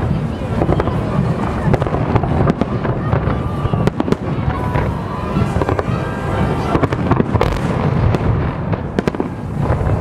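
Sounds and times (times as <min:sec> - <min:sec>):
continuous low rumble: 0:00.0 - 0:10.0.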